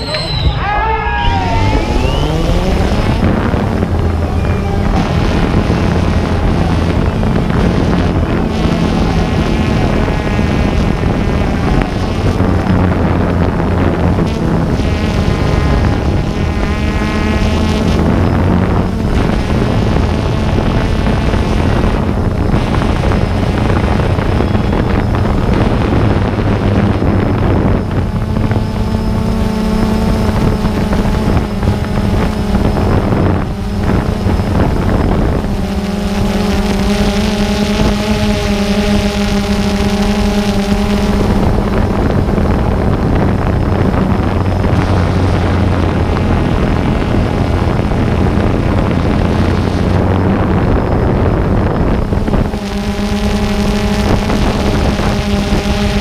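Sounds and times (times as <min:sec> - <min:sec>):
motor humming: 0:00.0 - 0:56.0
wind noise on microphone: 0:00.0 - 0:56.0.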